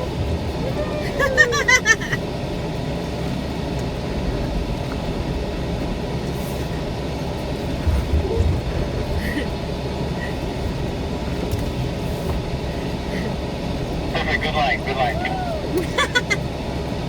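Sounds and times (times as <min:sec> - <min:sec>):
off-road vehicle engine rumbling: 0:00.0 - 0:17.0.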